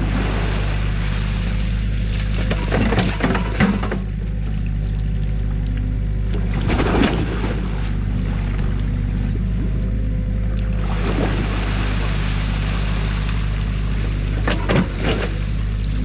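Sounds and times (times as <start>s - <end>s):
diesel engine running: 0.0s - 16.0s
water churning and splashing: 0.0s - 16.0s.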